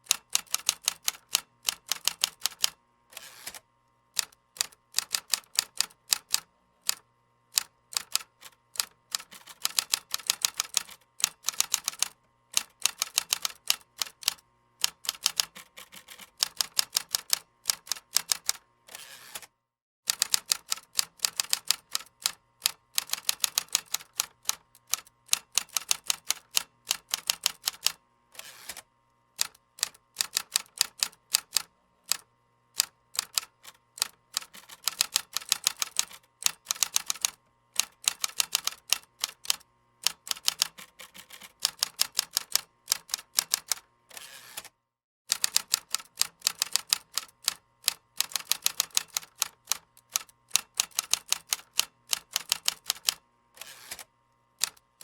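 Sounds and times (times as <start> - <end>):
computer keyboard typing: 0.1 - 2.8, 4.2 - 7.0, 7.6 - 18.6, 20.1 - 28.0, 29.4 - 32.2, 32.8 - 43.8, 45.3 - 53.2.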